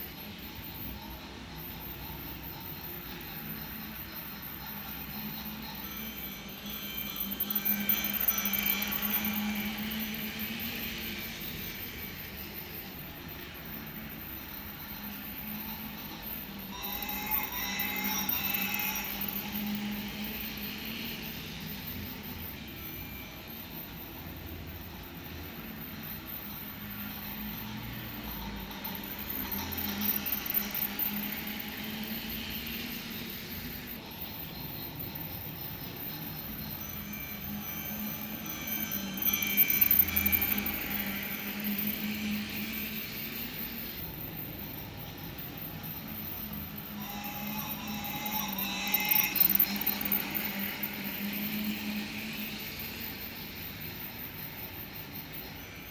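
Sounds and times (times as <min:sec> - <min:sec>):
model train running on track: 0:00.0 - 0:55.9.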